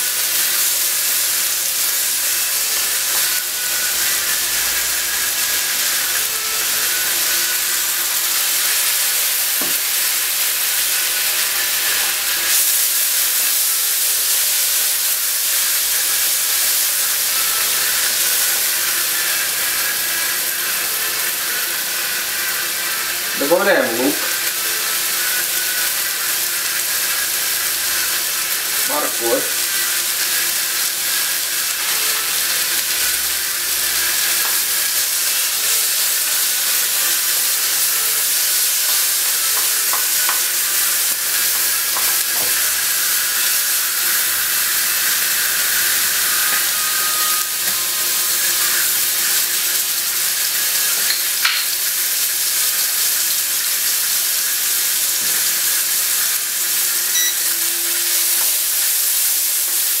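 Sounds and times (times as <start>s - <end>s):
food sizzling in hot oil: 0.0s - 60.0s
utensil stirring in wok: 0.0s - 60.0s.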